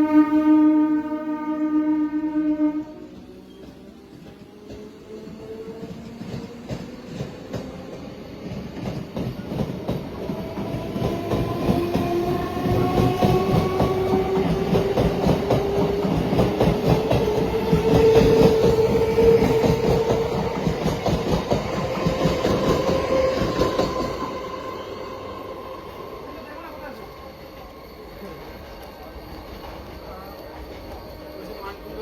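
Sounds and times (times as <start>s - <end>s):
train whine rising in pitch: 0.0s - 32.0s
train wheels clacking on rails: 3.1s - 32.0s.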